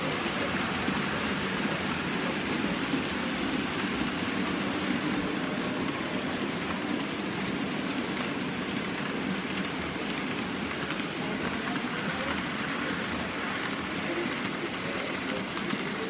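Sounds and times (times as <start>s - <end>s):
model trains whirring on track: 0.0s - 16.0s.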